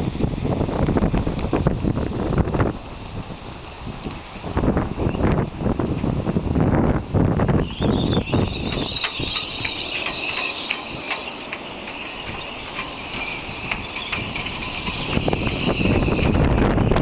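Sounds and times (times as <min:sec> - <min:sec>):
wind buffeting microphone: 0:00.0 - 0:17.0
steady high-pitched tone: 0:01.9 - 0:17.0.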